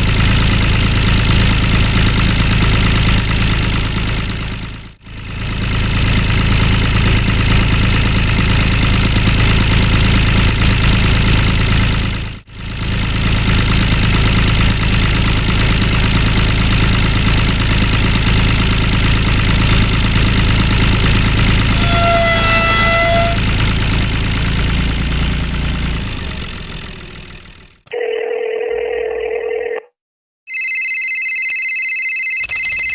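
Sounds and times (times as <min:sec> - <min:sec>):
small motor running: 0:00.0 - 0:27.8.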